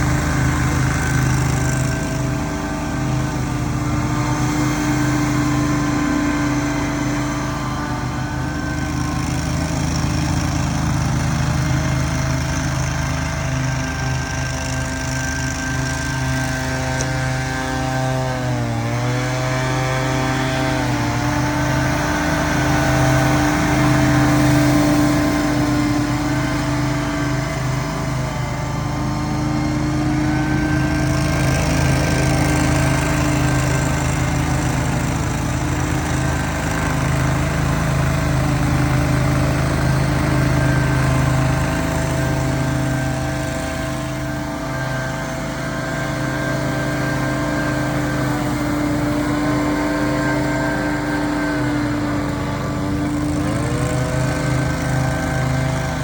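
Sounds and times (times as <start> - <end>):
small petrol engines running: 0.0 - 56.0.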